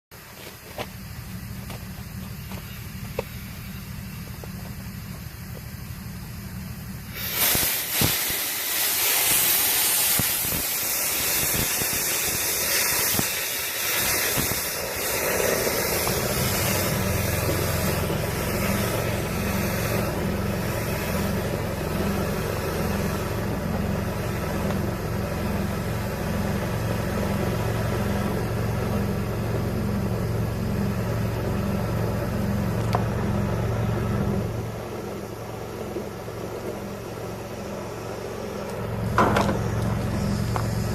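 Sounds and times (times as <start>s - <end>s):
motor humming: 0.2s - 40.9s
rush of hissing air: 0.2s - 40.9s.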